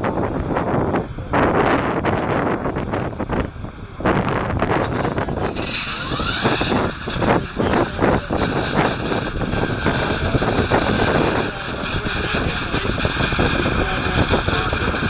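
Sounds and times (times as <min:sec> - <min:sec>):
high mechanical whine: 0:00.0 - 0:15.0
tractor with mower running: 0:02.8 - 0:15.0.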